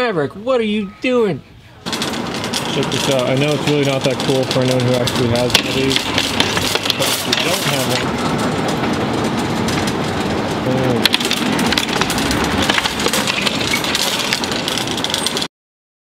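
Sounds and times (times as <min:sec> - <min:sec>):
metal shopping cart rattling: 0:01.8 - 0:15.5.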